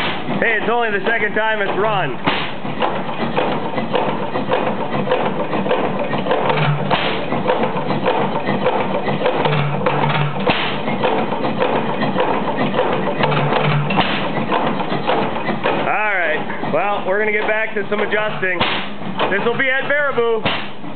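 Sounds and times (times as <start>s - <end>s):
hit-and-miss engine clattering: 0.0s - 20.9s.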